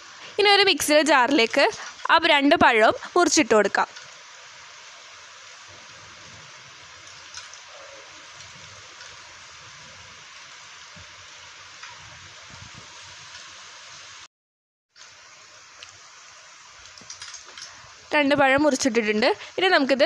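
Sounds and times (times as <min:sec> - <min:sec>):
steady background hiss: 0:00.0 - 0:14.3, 0:15.0 - 0:20.0.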